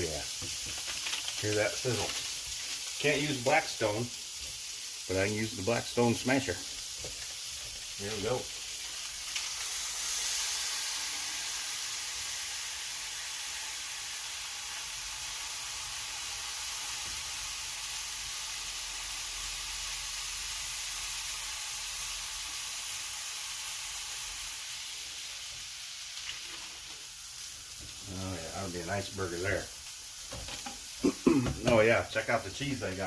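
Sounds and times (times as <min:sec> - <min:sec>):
burger patty sizzling on skillet: 0:00.0 - 0:33.0.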